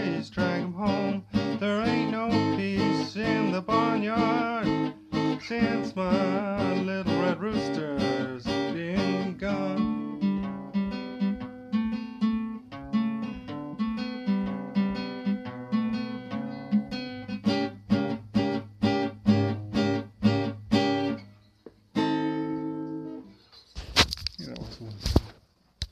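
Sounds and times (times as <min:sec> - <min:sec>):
blues guitar playing: 0:00.0 - 0:23.4.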